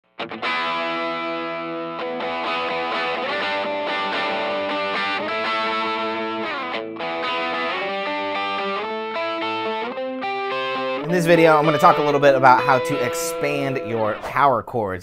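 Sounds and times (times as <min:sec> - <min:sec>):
overdriven electric guitar strumming: 0:00.0 - 0:14.5.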